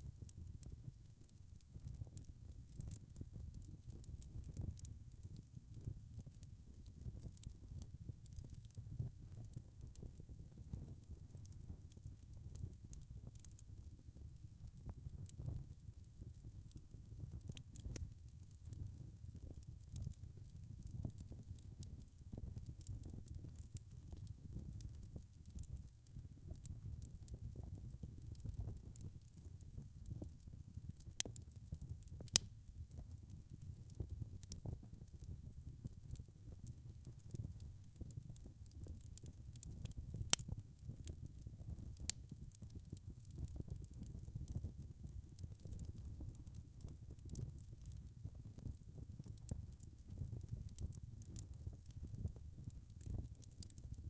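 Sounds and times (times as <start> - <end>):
wood fire crackling: 0.2 - 54.0.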